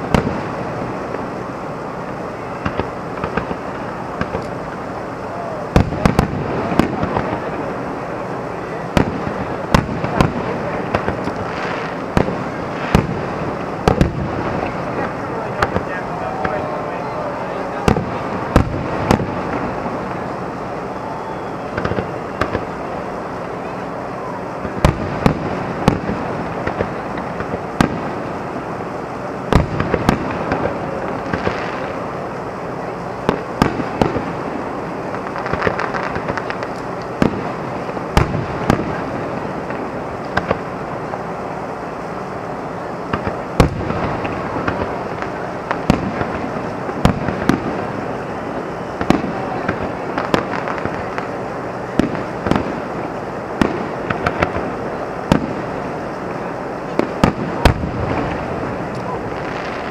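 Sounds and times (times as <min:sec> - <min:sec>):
fireworks bursting: 0:00.0 - 0:59.9
steady background noise: 0:00.0 - 0:59.9.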